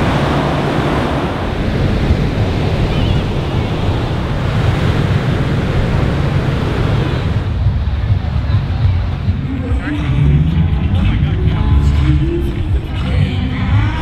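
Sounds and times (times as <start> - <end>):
ocean surf washing on beach: 0.0 - 14.0
wind rumbling on microphone: 0.0 - 14.0.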